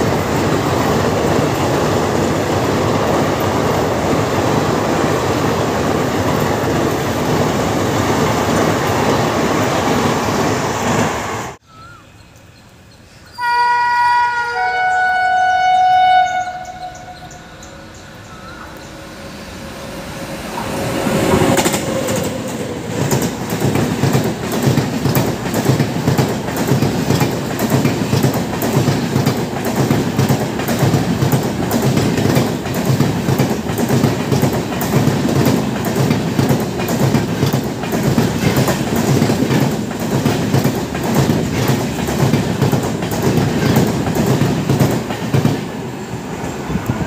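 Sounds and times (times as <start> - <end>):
train passing at speed: 0.0 - 11.6, 14.3 - 47.0.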